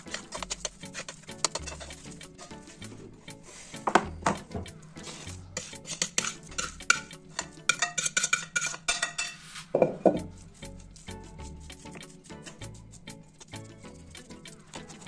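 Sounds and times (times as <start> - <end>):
metal spoon scraping and clinking: 0.0 - 3.8, 5.0 - 15.0.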